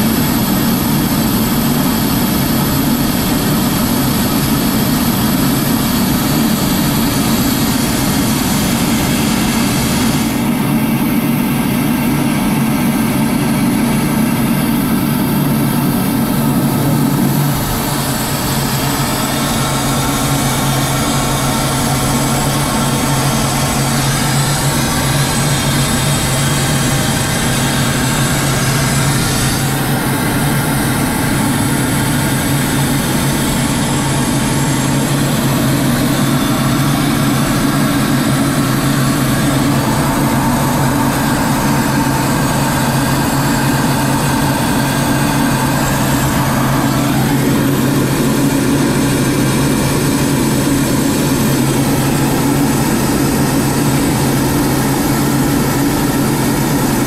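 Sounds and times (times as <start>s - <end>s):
jet cockpit engine roar: 0.0s - 57.0s.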